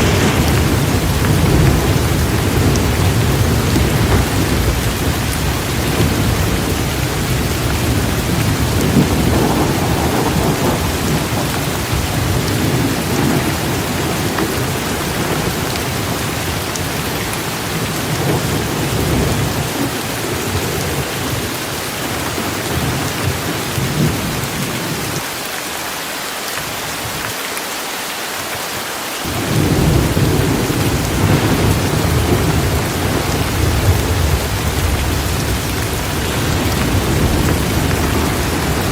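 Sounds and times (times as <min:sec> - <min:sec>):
thunder rumbling: 0:00.0 - 0:25.2, 0:29.3 - 0:38.9
heavy rain hissing: 0:00.0 - 0:38.9.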